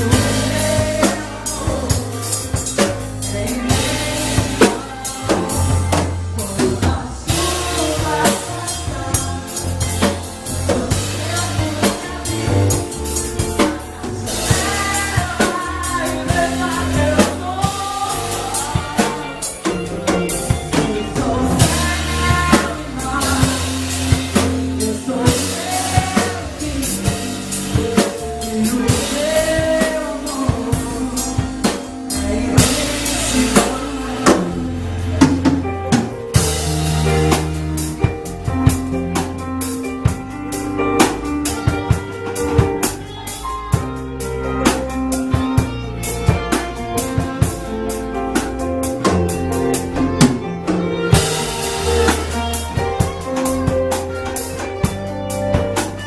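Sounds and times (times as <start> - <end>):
drum kit: 0.0 - 56.0
pop ballad played by band: 0.0 - 56.0.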